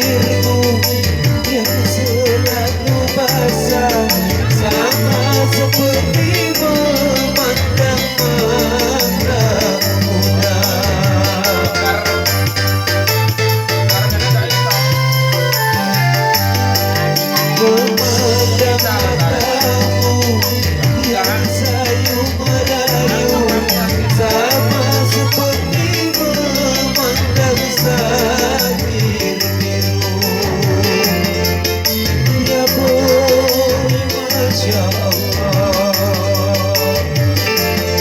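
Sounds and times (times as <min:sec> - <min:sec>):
bass line: 0:00.0 - 0:38.0
melodic parts: 0:00.0 - 0:38.0
percussion beat: 0:00.0 - 0:38.0.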